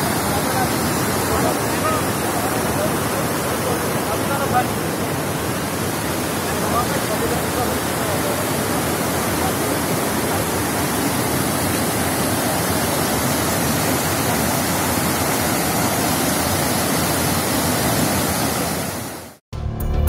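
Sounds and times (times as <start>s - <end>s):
water rushing: 0.0s - 19.4s.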